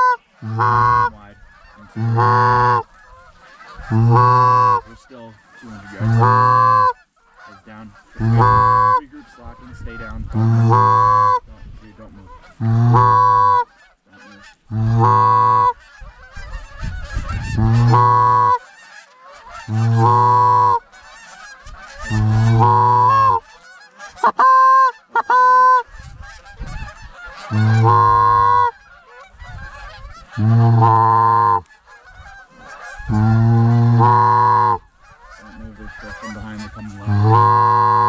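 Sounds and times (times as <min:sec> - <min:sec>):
goose honking: 0:00.0 - 0:38.0
short high goose clucks: 0:00.0 - 0:38.0.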